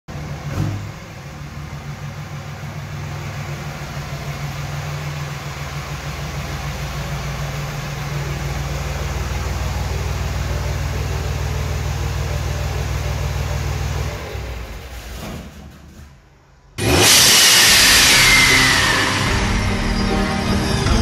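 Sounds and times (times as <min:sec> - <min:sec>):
diesel truck idling: 0:00.1 - 0:15.1, 0:16.8 - 0:21.0.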